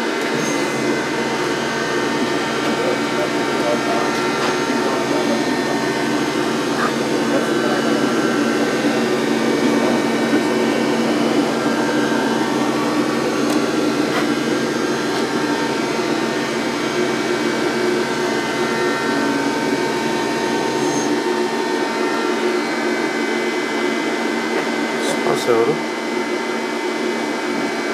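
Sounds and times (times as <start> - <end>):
machinery hum and whir: 0.0 - 27.9.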